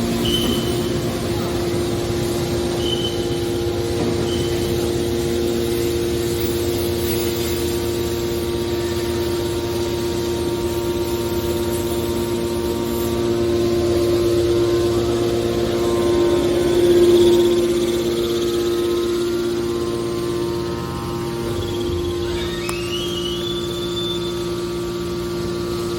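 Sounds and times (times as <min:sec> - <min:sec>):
baler machine hum and rumble: 0:00.0 - 0:25.9.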